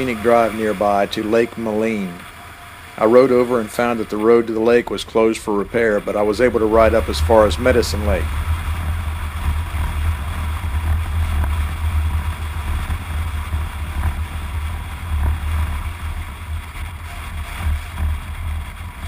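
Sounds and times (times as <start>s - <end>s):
motorcycle engine: 0.0s - 19.0s
road noise: 0.0s - 19.0s.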